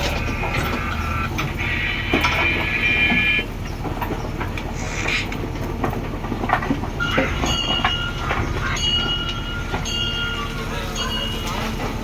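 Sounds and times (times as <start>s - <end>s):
metal clanks and knocks: 0.0s - 10.4s
diesel engine running: 0.0s - 12.0s.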